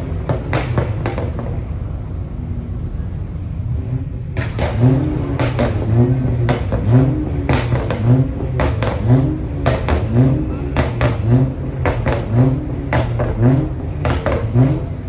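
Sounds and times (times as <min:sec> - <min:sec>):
car driving rumble inside cabin: 0:00.0 - 0:15.0
knocks and clatters: 0:00.0 - 0:15.0.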